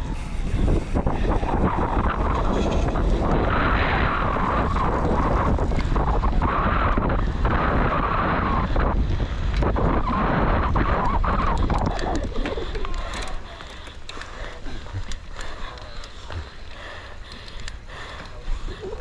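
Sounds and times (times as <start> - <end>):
bike rattling over rough ground: 0.0 - 19.0
wind buffeting microphone: 0.0 - 19.0.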